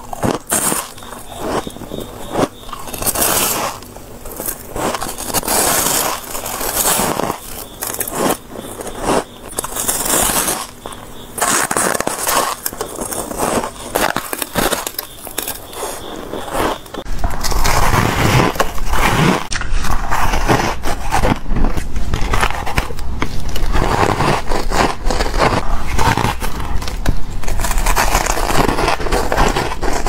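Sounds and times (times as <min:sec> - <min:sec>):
person crunching ice: 0:00.0 - 0:30.0.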